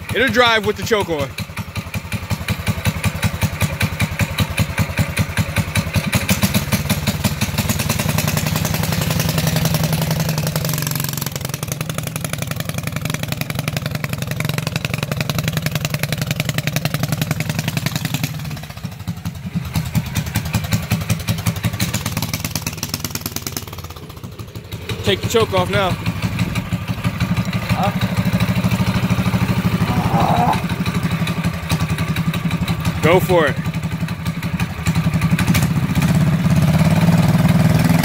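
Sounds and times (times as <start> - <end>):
mini bike engine running: 0.0 - 38.0.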